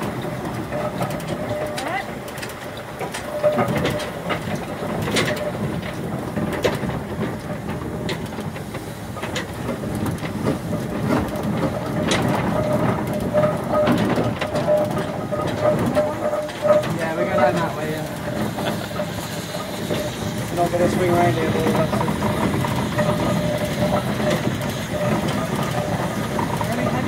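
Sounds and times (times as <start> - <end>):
clanks and knocks of moving parts: 0.0 - 27.0
steam locomotive rumble: 0.0 - 27.0.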